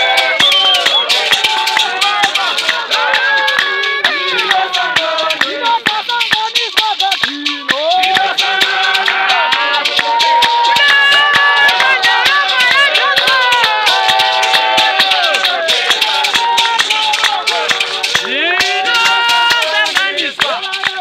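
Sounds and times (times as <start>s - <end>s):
chorus of voices singing: 0.0s - 21.0s
gourd rattle shaking: 0.0s - 21.0s
hand clapping: 0.0s - 21.0s.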